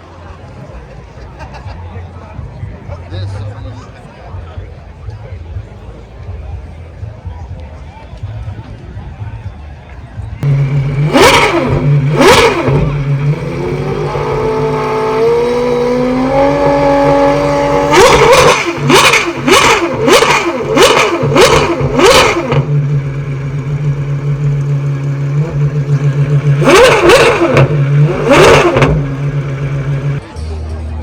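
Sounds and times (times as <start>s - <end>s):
engine idling and revving: 2.4s - 31.0s.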